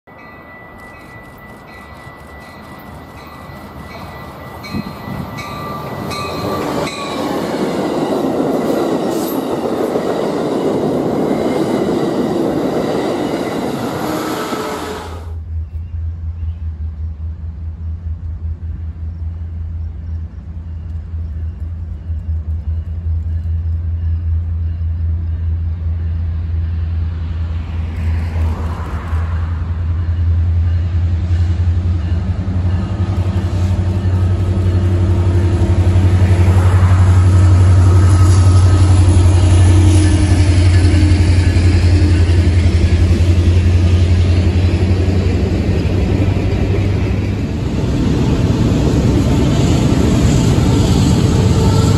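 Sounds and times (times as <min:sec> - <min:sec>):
diesel train passing: 0:00.0 - 0:51.9
freight train low rumble: 0:00.0 - 0:51.9.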